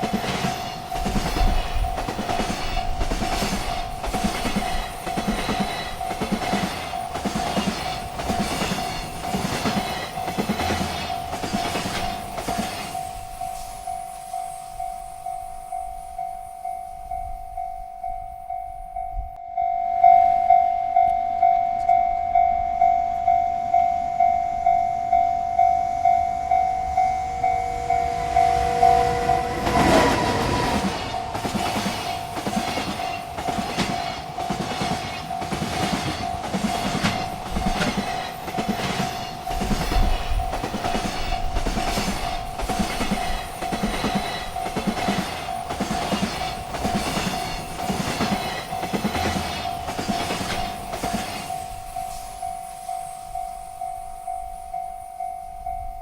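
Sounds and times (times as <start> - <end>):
train wheels clacking: 0.0 - 18.1, 24.7 - 56.0
freight train rumbling past: 0.0 - 56.0
railroad crossing bell ringing: 0.0 - 56.0.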